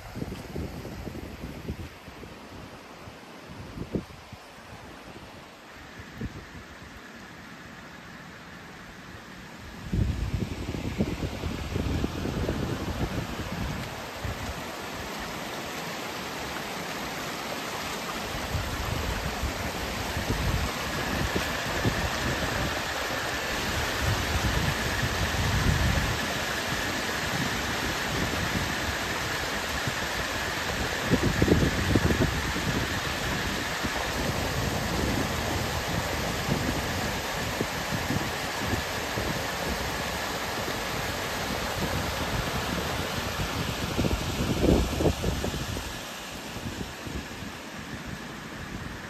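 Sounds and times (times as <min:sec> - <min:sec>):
floodwater rushing: 0:00.0 - 0:49.0
low gusty bursts: 0:07.8 - 0:49.0.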